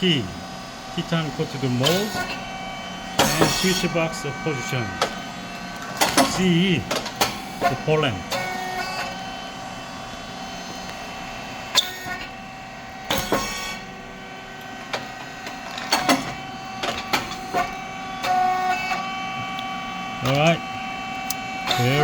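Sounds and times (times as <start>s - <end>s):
machine humming and whining: 0.0s - 22.0s.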